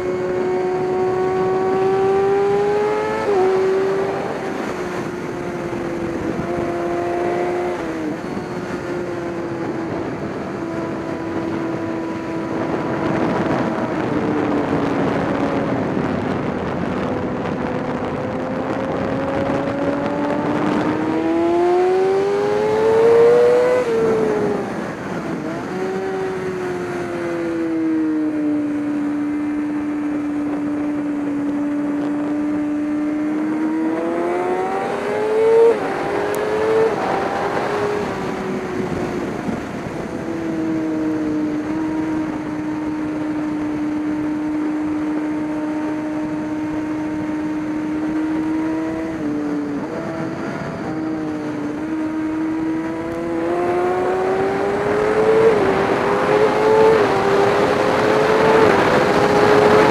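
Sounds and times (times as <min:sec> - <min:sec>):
race car engine revving: 0:00.0 - 0:16.9, 0:17.5 - 0:28.3, 0:29.5 - 0:59.9.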